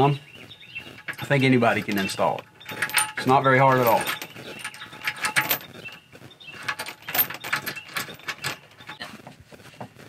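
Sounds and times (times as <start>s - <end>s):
metal chain clinking and rattling: 0.6s - 9.0s.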